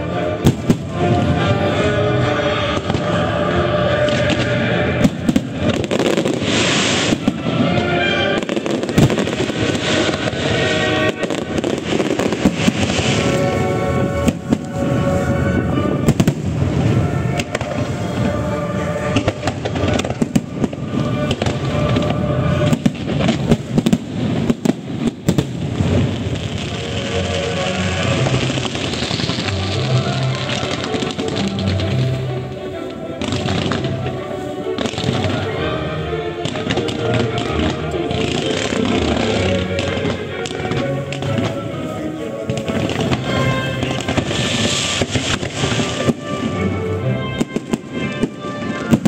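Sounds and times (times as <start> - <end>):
fireworks bursting: 0.0 - 49.0
music playing: 0.0 - 49.0.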